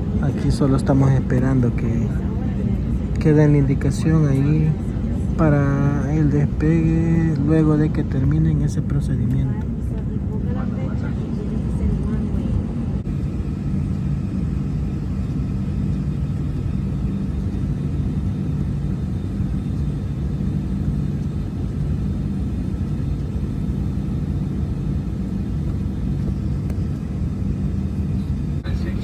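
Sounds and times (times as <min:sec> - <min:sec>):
jet airliner cabin drone: 0:00.0 - 0:29.0.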